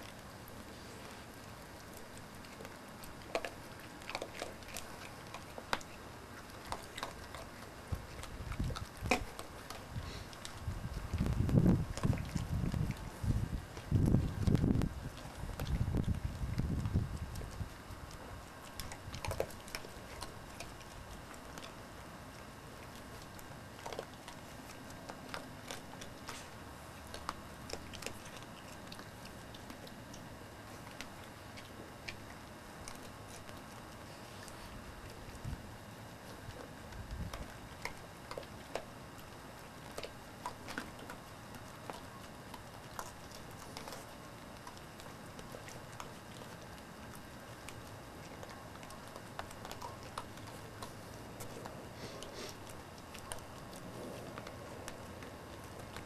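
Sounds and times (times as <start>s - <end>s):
animals crunching grain: 0.0s - 56.0s.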